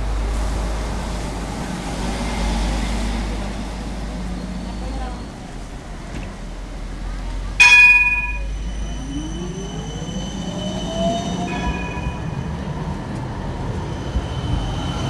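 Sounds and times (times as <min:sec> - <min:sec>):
tram electric drive whining: 0:00.0 - 0:15.0
wheels rumbling on rails: 0:00.0 - 0:15.0.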